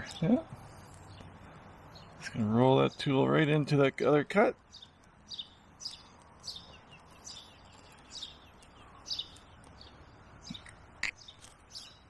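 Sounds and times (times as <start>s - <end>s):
low outdoor background: 0.0s - 12.0s
small birds chirping: 0.0s - 12.0s.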